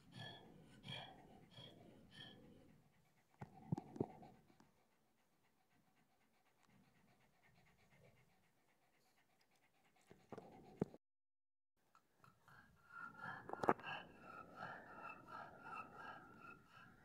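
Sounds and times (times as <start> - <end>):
dog panting: 0.0 - 11.0, 12.0 - 17.0.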